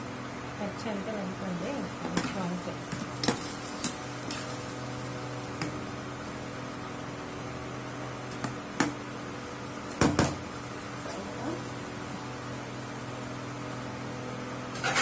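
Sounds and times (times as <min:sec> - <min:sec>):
induction cooktop electrical hum: 0:00.0 - 0:15.0.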